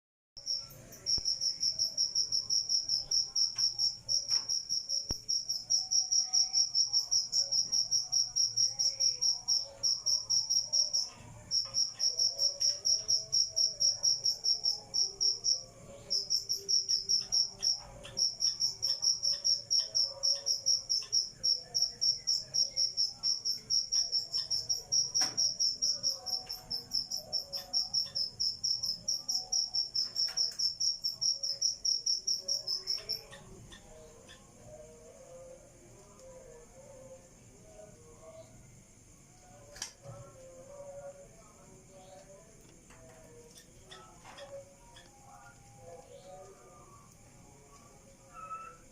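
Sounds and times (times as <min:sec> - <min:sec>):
cricket chirping: 0:00.4 - 0:48.9.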